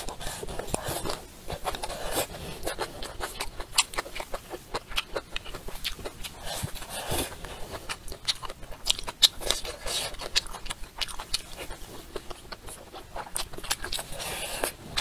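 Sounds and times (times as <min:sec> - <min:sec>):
biting and chewing food: 0:00.0 - 0:15.0.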